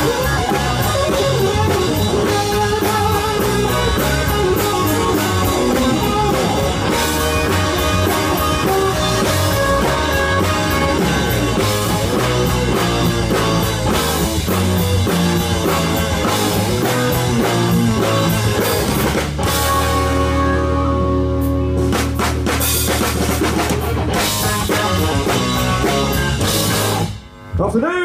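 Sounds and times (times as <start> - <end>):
drum kit: 0.0 - 27.8
rock band playing: 0.0 - 28.0.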